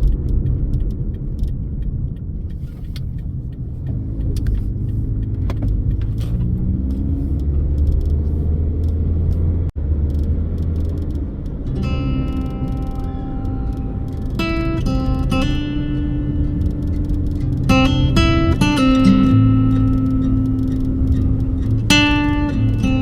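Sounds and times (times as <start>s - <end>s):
car engine accelerating: 0.0s - 23.0s
road rumble: 0.0s - 23.0s.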